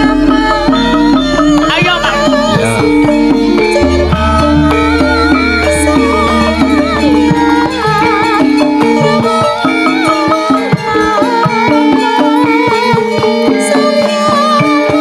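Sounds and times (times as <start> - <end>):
bronze metallophones ringing: 0.0 - 15.0
hand drum strokes: 0.0 - 15.0
high wavering melody: 0.0 - 15.0.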